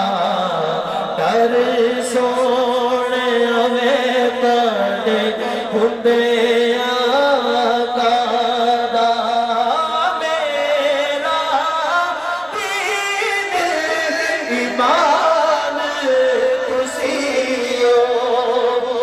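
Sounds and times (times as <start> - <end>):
men singing through loudspeaker: 0.0 - 19.0.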